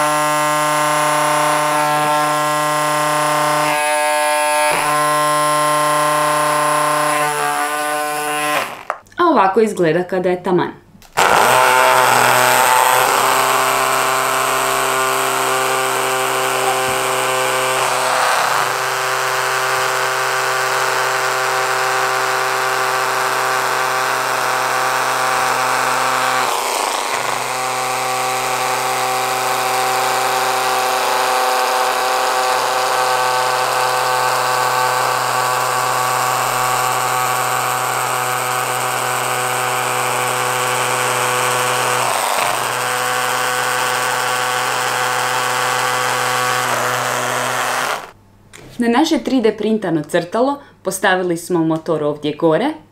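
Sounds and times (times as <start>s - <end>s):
small motor buzzing: 0.0s - 9.0s, 11.2s - 48.2s.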